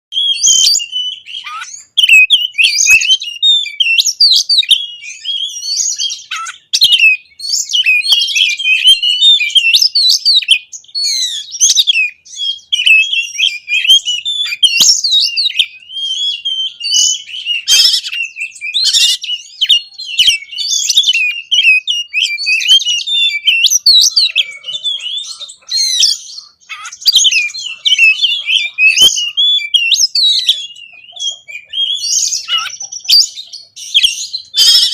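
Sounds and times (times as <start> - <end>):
bird singing whistles and twitters: 0.1 - 34.9.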